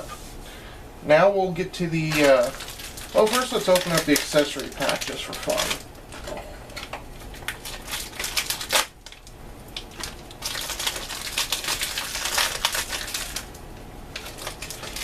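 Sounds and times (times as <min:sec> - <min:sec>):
plastic wrapper crinkling: 0:02.0 - 0:15.0.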